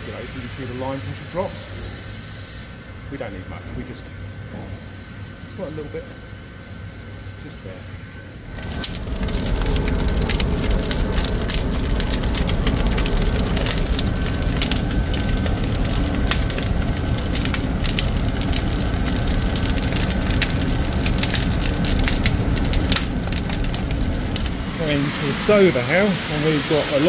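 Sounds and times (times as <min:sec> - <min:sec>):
furnace fire rumbling and crackling: 0:00.0 - 0:27.0.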